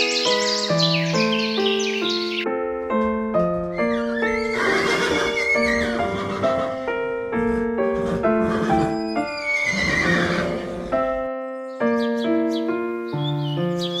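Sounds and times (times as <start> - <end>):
held keyboard notes: 0.0 - 14.0.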